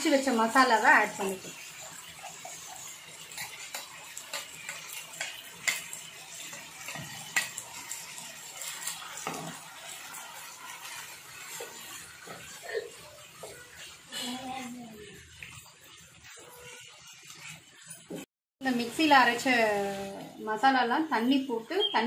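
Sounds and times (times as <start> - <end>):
soft steady sizzle: 0.0 - 22.0.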